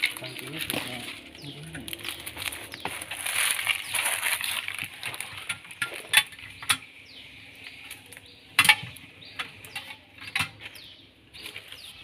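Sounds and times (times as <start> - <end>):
clicks and knocks of metal and glass: 0.0 - 6.9, 7.9 - 11.6.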